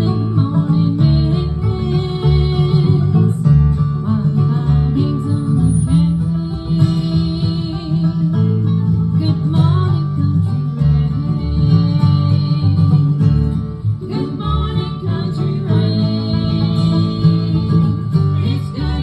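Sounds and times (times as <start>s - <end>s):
strummed acoustic guitar: 0.0s - 19.0s
upright bass: 0.0s - 19.0s.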